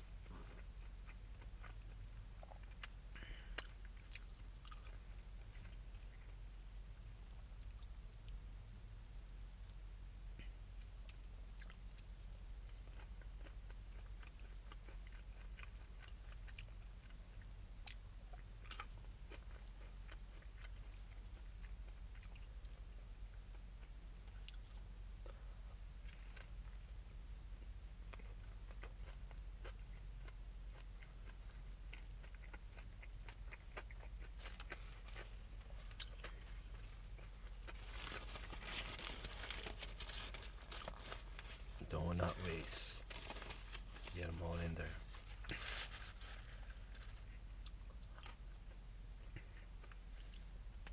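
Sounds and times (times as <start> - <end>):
person chewing crispy food: 0.0 - 8.4, 9.0 - 50.9.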